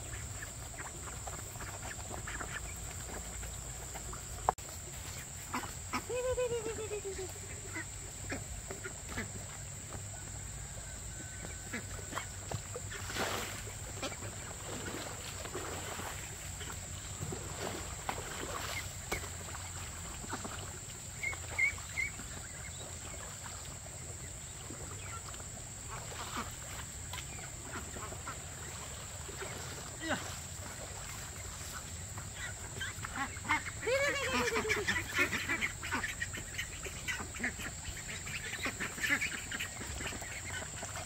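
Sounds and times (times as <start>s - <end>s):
ducks and chicks feeding: 0.0s - 41.0s.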